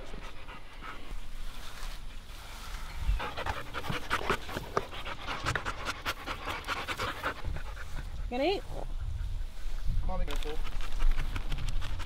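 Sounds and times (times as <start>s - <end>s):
dogs panting: 0.0s - 1.6s, 3.0s - 12.0s.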